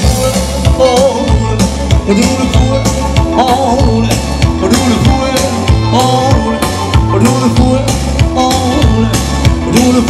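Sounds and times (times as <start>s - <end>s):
party music on synthesizer keyboards: 0.0s - 10.0s.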